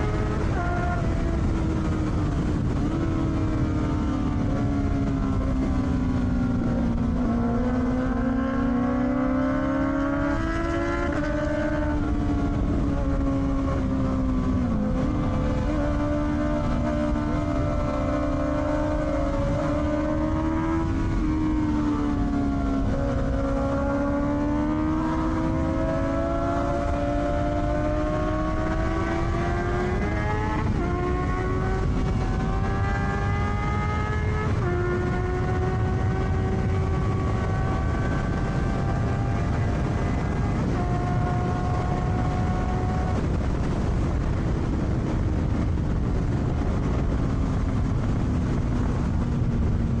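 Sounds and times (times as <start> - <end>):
motorcycle engine accelerating: 0.0 - 50.0
wind on microphone: 0.0 - 50.0.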